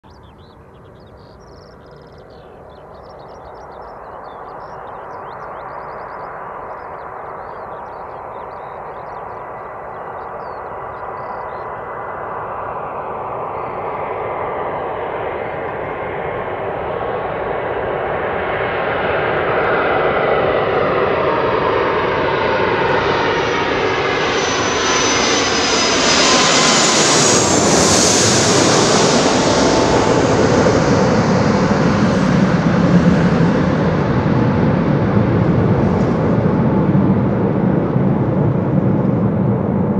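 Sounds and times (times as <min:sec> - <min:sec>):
high jet engine whine: 0:00.1 - 0:39.9
jet aircraft passing overhead: 0:00.1 - 0:39.9.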